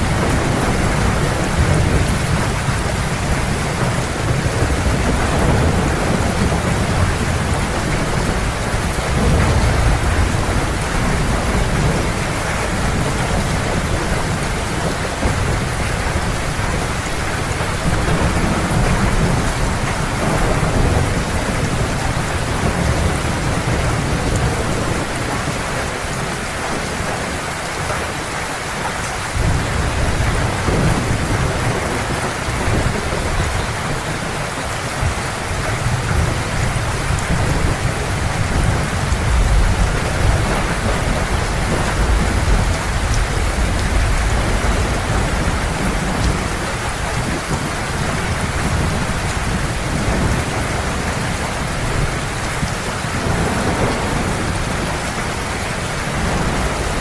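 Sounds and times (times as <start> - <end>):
distant thunder rumbling: 0.0 - 27.4, 29.3 - 57.0
heavy rain pouring: 0.0 - 57.0.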